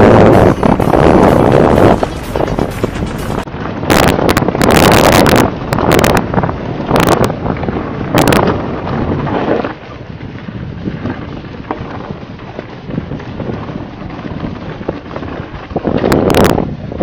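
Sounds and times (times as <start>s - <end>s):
bike jolts: 0.0s - 17.0s
bike rattling over stones: 0.0s - 17.0s
wind buffeting microphone: 0.0s - 17.0s.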